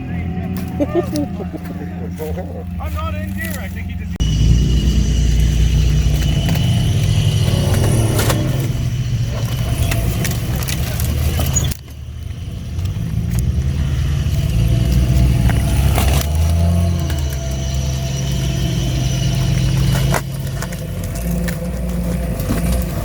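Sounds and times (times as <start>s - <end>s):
engine running at low revs: 0.0s - 23.0s.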